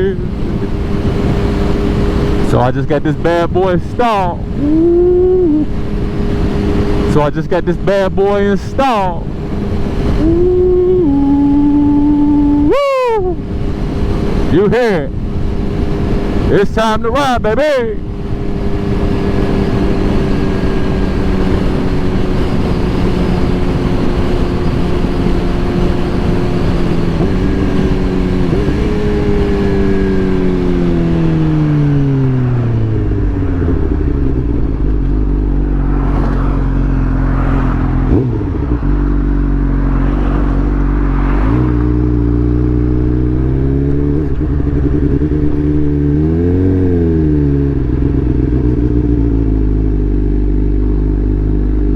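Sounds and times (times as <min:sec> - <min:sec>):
motorcycle engine revving: 0:00.0 - 0:16.9, 0:17.6 - 0:51.9.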